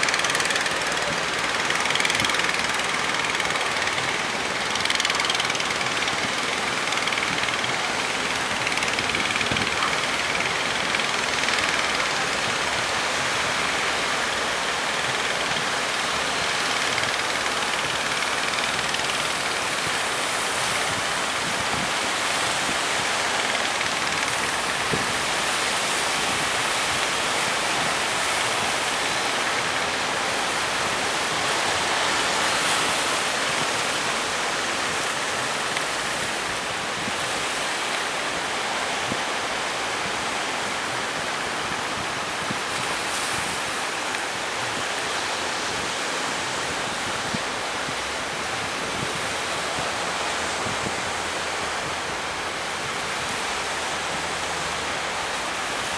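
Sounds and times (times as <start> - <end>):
waves breaking: 0.0 - 55.9.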